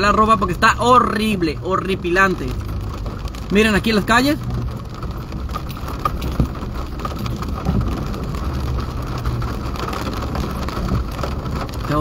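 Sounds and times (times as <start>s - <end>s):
rain on a truck: 0.0s - 12.0s
truck engine hum: 0.0s - 12.0s
tyres on a wet road: 0.0s - 12.0s.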